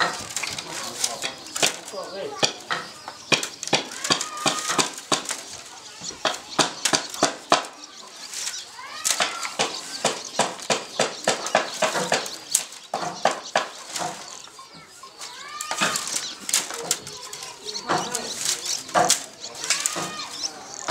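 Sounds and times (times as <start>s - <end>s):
bamboo strips clicking and rattling: 0.0s - 20.9s.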